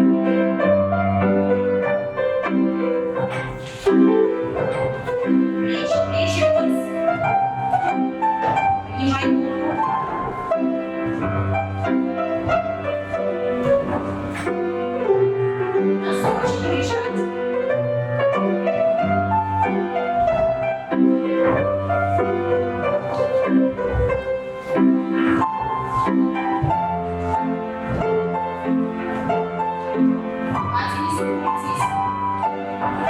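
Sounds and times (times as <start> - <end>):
piano dance tune: 0.0 - 33.0
sharp knocks: 2.6 - 14.8, 18.6 - 33.0.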